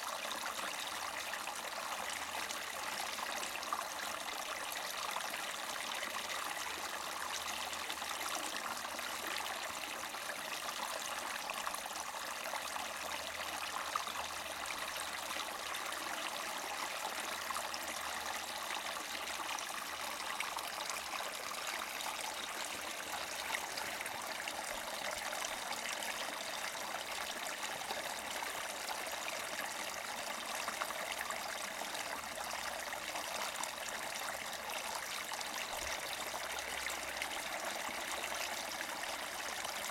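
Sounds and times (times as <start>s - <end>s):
brook gurgling over rocks: 0.0s - 39.9s.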